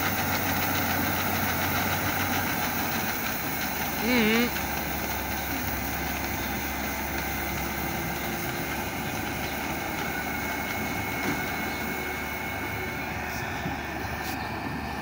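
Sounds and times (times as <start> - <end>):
unloading auger running: 0.0 - 14.6
combine harvester engine running: 0.0 - 15.0.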